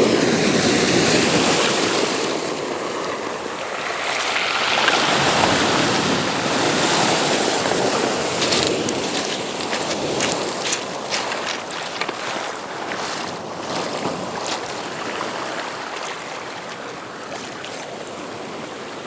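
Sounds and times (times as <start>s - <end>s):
sea waves breaking on beach: 0.0s - 19.0s.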